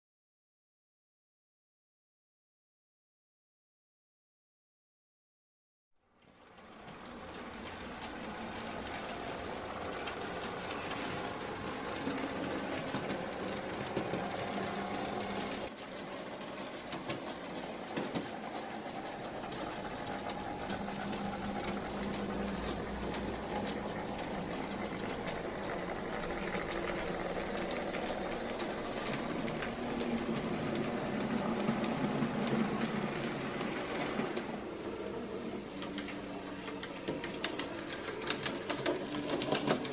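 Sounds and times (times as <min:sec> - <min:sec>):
model train motors whirring: 0:06.3 - 0:39.9.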